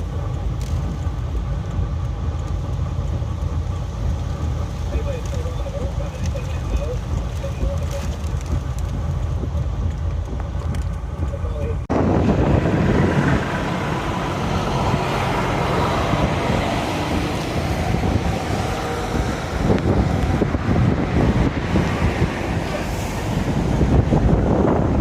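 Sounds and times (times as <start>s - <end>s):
vehicle and road rumble: 0.0s - 25.0s.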